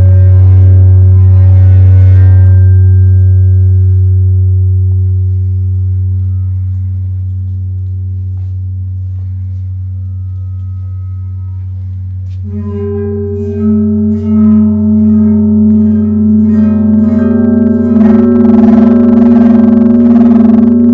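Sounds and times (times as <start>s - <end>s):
vibrating plate humming: 0.0s - 20.9s.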